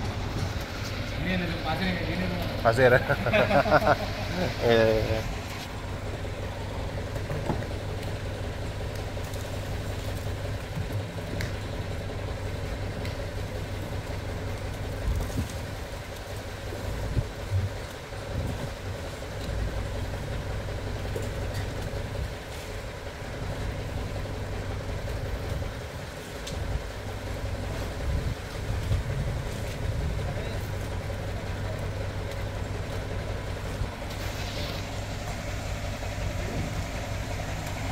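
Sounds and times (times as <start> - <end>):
truck engine running: 0.0 - 37.9.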